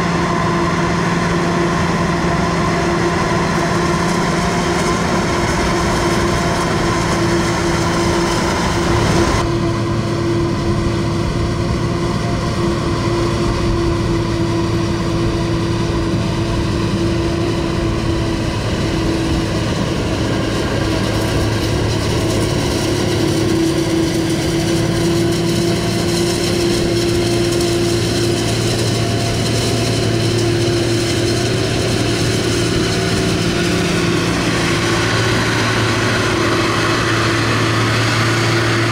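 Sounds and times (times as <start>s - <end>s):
heavy farm machinery running: 0.0s - 38.9s.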